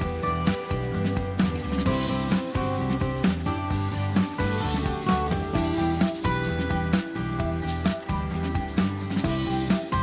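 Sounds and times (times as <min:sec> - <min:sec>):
music with held notes and beat: 0:00.0 - 0:10.0.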